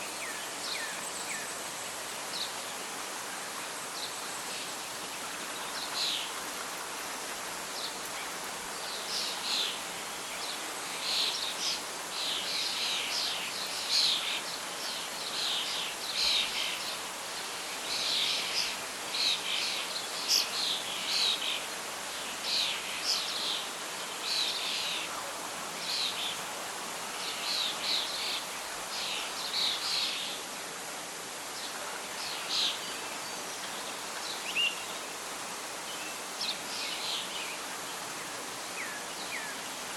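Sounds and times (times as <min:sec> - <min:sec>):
rustling leaves: 0:00.0 - 0:39.9
wind: 0:00.0 - 0:39.9.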